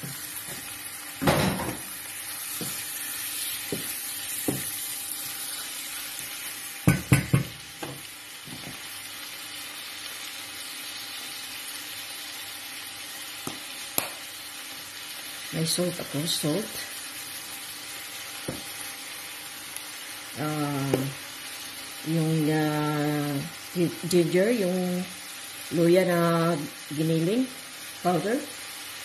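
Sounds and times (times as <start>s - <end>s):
meat sizzling in a pan: 0.0s - 29.0s.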